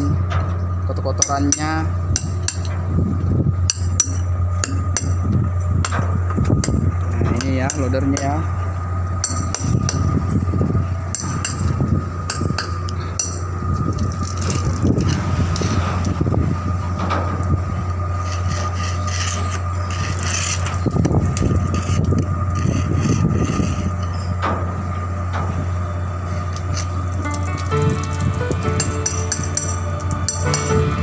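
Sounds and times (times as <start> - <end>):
low machinery drone: 0.0 - 31.0
thin steady whine: 0.0 - 31.0.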